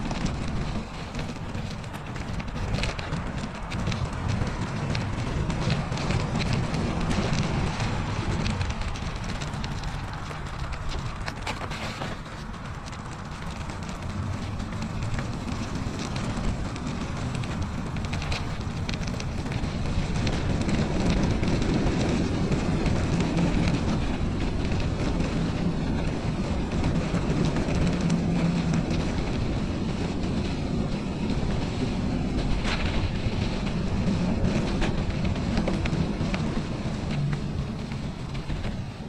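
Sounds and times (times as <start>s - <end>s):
faint clicks and rattles: 0.0s - 39.0s
wind buffeting microphone: 0.0s - 39.0s.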